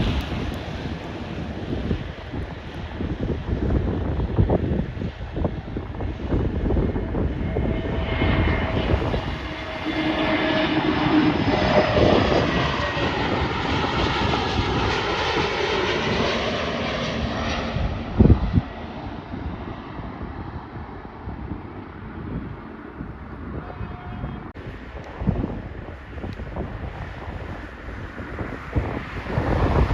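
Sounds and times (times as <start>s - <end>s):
jet airliner passing: 0.0s - 29.9s
wind rumbling on microphone: 0.0s - 29.9s.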